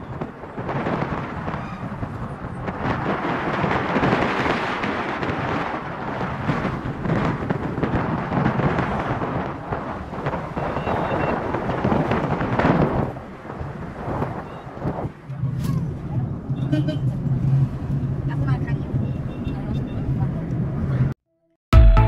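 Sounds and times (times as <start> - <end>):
loud rumbling rush of noise: 0.0 - 19.1.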